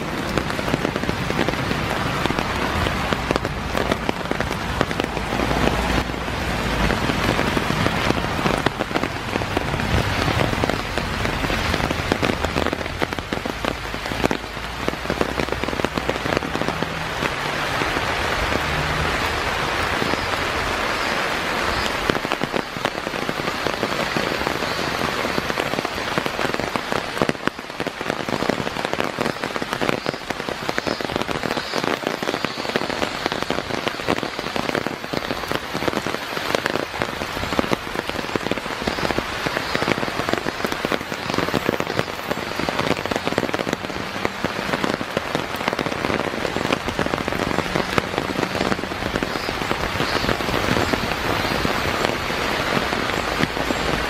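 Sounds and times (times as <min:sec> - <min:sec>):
rain on leaves and wooden boards: 0:00.0 - 0:54.0.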